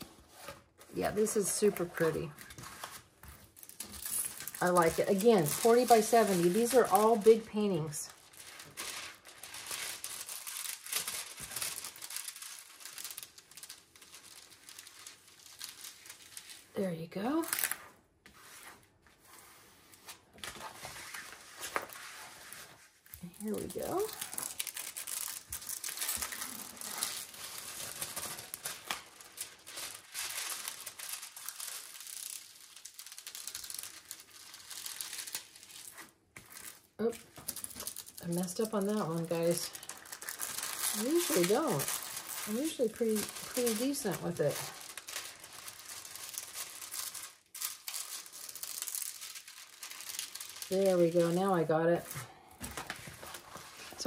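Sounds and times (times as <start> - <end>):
canvas and plastic packaging rustling: 0.0 - 54.0.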